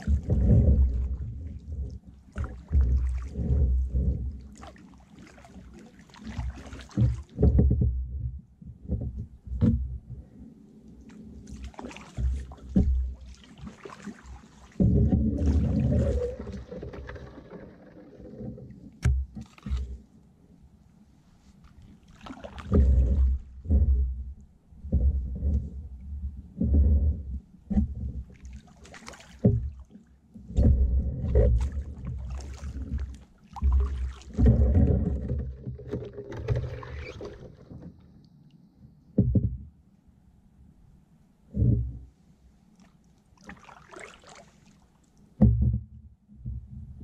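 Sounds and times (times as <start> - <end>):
kayak paddle strokes in water: 0.0 - 20.1, 21.2 - 38.1, 41.5 - 47.0.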